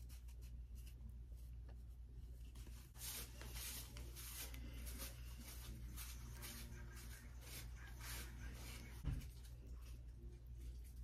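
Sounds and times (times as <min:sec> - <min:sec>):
hair and cloth rustling: 0:00.0 - 0:10.1
low steady hum: 0:00.0 - 0:11.0.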